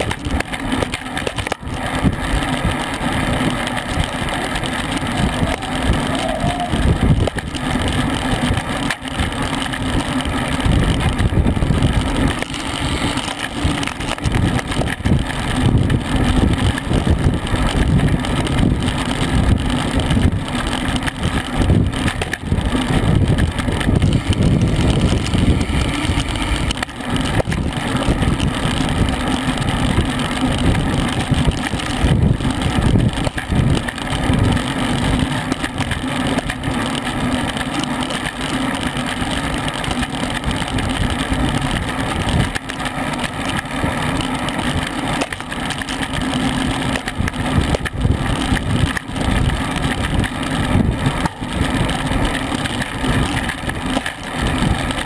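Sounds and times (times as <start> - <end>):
wind buffeting microphone: 0.0 - 36.8, 39.3 - 42.8, 43.4 - 55.0
bicycle tyre and road noise: 0.0 - 55.0.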